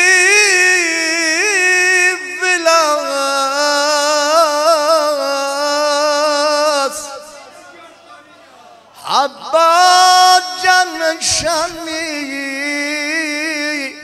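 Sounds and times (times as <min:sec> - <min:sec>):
man singing devotional song: 0:00.0 - 0:07.8, 0:08.9 - 0:14.0.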